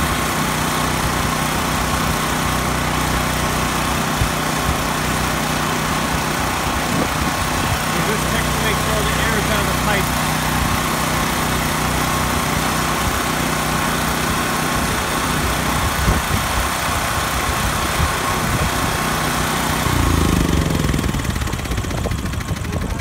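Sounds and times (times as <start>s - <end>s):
portable generator engine running: 0.0s - 23.0s.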